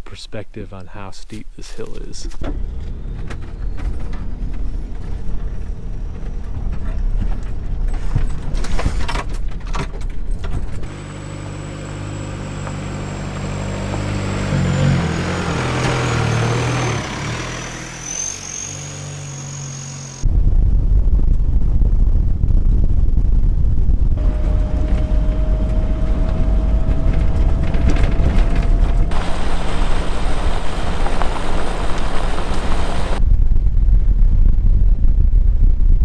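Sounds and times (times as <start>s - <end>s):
diesel engine drone: 0.5s - 20.3s, 24.2s - 33.2s
road and wind rumble: 2.3s - 36.0s.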